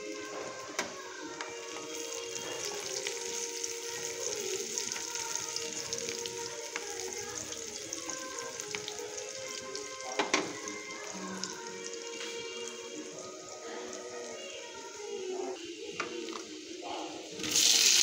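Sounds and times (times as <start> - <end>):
onions sizzling in oil: 0.0 - 15.6, 16.2 - 18.0
background music: 0.0 - 18.0.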